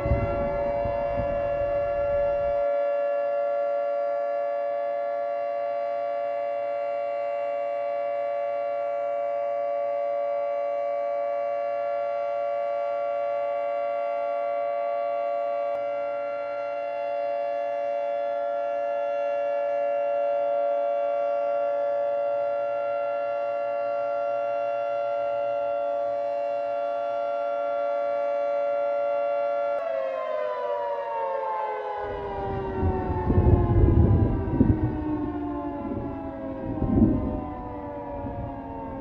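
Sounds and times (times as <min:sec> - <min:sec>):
warning siren steady tone: 0:00.0 - 0:39.0.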